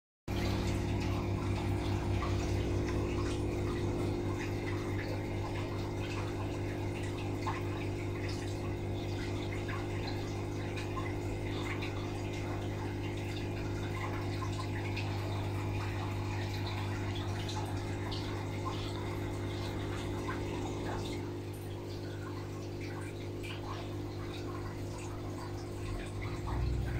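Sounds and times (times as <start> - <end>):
air pump humming: 0.3 - 26.9
bubbles popping and splashing: 0.3 - 26.9.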